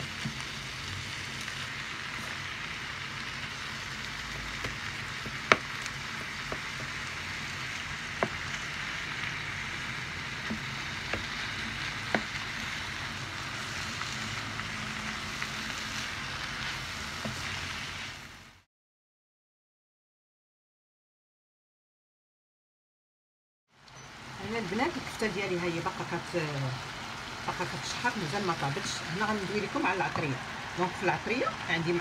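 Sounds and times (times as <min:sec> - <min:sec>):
meat and vegetables sizzling in pan: 0:00.0 - 0:18.7, 0:23.8 - 0:32.0.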